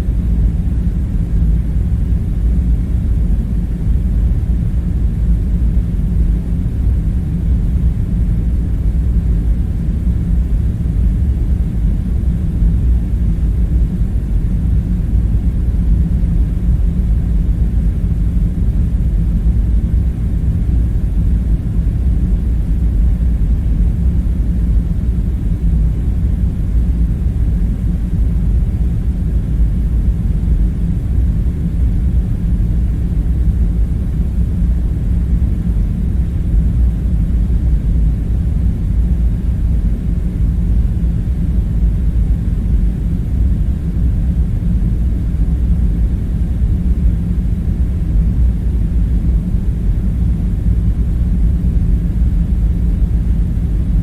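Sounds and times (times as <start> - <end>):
deep rumble: 0.0 - 54.0
low hum: 0.0 - 54.0.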